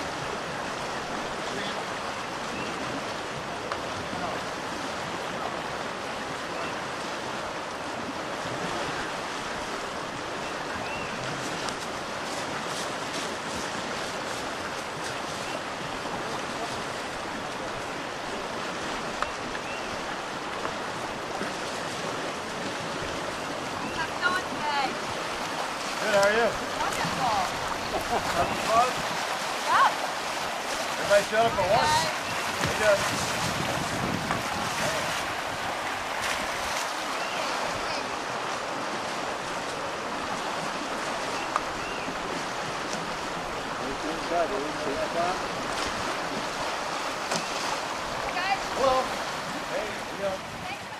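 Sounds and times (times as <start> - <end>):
creek rapids rushing: 0.0 - 50.9.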